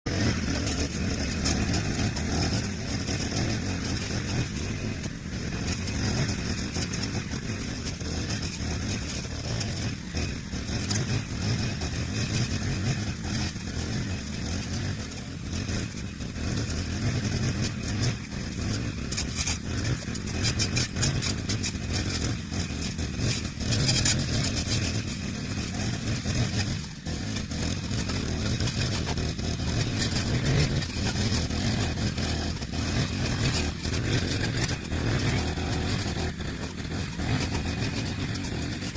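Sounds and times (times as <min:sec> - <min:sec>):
brush cutter engine running: 0:00.1 - 0:38.9.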